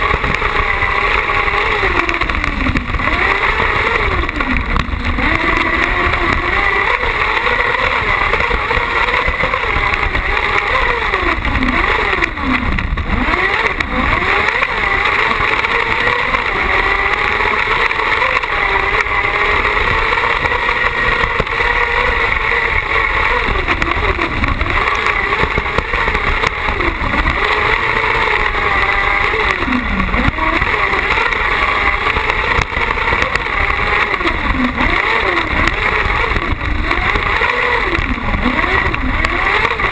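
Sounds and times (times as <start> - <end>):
buggy engine running hard: 0.0 - 39.9
track noise: 0.0 - 39.9.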